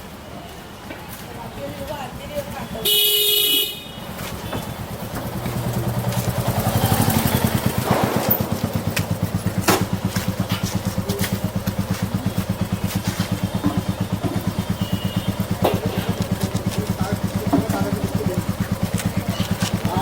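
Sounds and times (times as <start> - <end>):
engine idling: 1.9 - 20.0.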